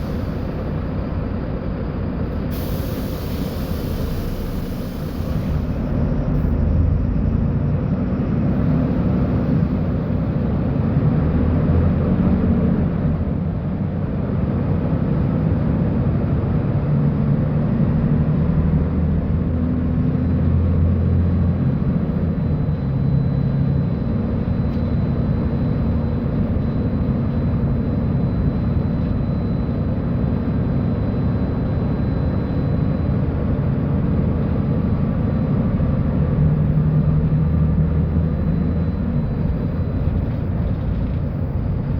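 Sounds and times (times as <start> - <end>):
bus diesel engine drone: 0.0 - 41.9.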